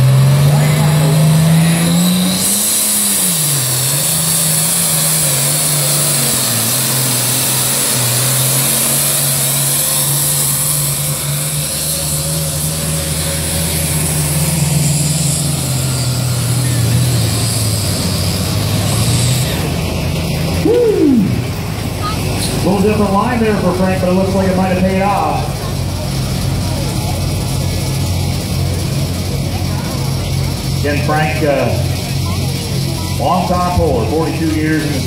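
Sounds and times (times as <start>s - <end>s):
tractor engine under heavy load: 0.0s - 35.0s.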